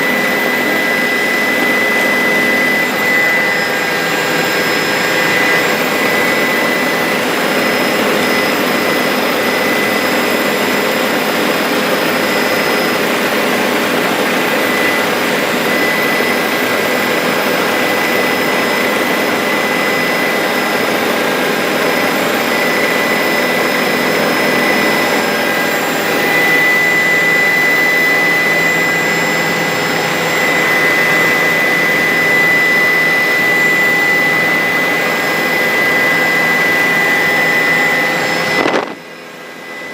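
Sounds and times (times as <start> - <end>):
helicopter engine and rotors: 0.0 - 39.9
high-pitched whine: 0.0 - 39.9.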